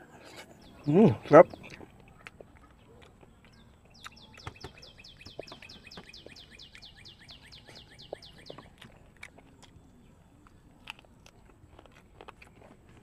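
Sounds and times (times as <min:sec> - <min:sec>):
mouth clicks of eating: 0:00.2 - 0:13.0.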